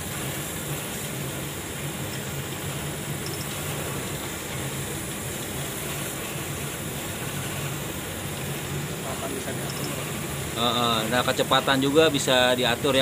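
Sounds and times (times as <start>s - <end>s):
laser cutting machine hum: 0.0s - 13.0s.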